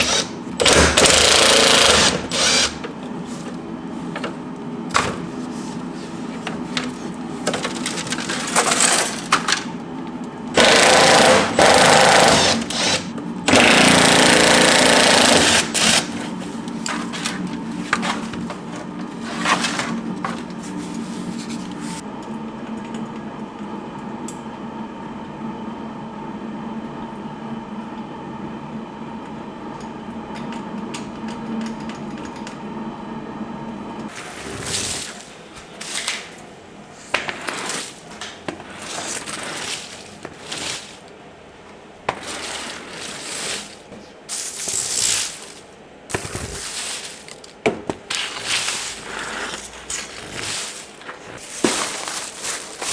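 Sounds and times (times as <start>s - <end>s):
steady mechanical hum: 0.0s - 52.9s.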